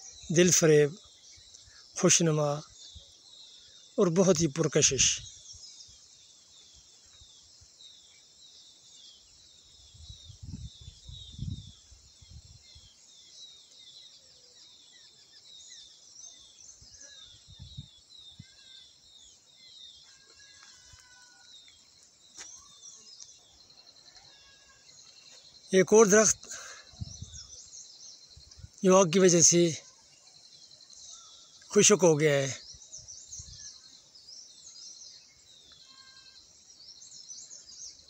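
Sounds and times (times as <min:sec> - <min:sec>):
insect chorus: 0:00.0 - 0:38.0.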